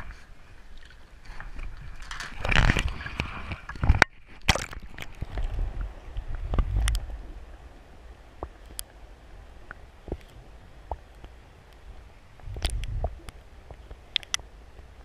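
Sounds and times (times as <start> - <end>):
underwater gurgling: 0.0 - 15.0
water splashing and sloshing: 0.0 - 15.0.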